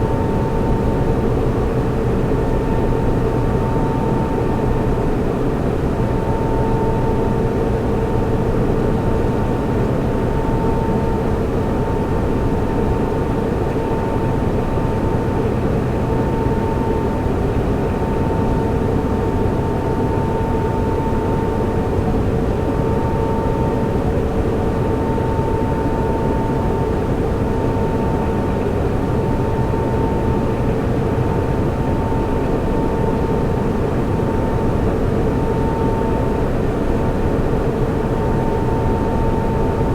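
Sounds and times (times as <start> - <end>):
cooling fans drone: 0.0 - 39.9
mid-pitched whine: 0.0 - 39.9.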